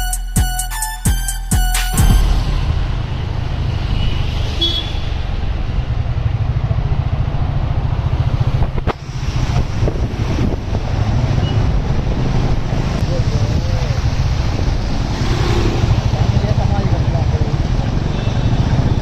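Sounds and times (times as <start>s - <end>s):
vehicle rumble: 2.0s - 19.0s.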